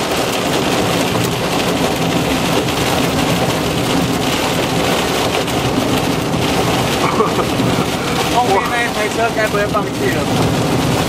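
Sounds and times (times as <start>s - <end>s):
heavy rain on a car: 0.0s - 11.0s
road and engine noise: 0.0s - 11.0s.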